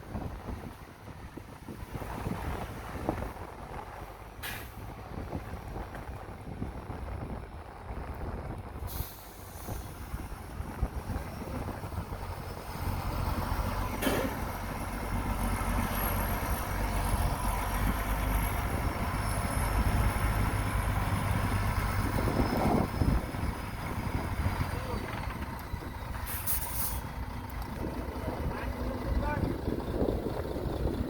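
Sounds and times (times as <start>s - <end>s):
diesel engine of earthmoving machine: 0.0s - 31.0s.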